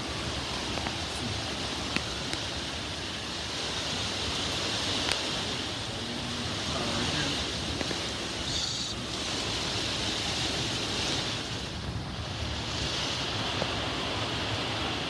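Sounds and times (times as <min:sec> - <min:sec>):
heavy rain: 0:00.0 - 0:15.0
wind: 0:00.0 - 0:15.0.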